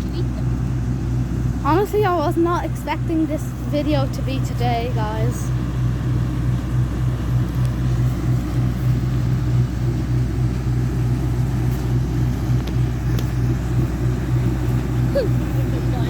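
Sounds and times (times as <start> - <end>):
farm machine engine running: 0.0 - 16.0.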